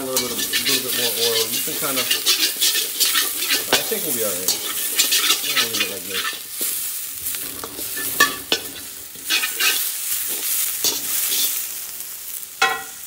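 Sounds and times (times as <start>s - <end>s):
metal spatula scraping pan: 0.0s - 11.6s
vegetables sizzling in a wok: 0.0s - 13.0s.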